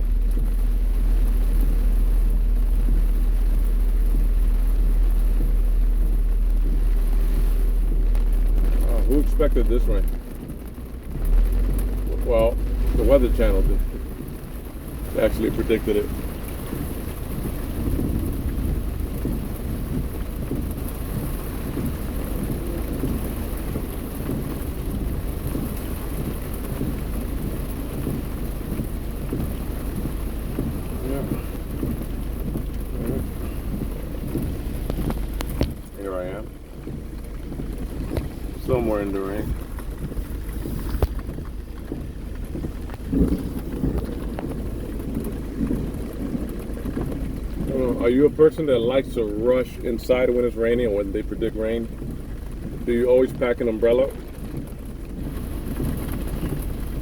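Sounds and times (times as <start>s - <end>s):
heavy rain beating on car: 0.0s - 57.0s
low rumble of car driving: 0.0s - 57.0s.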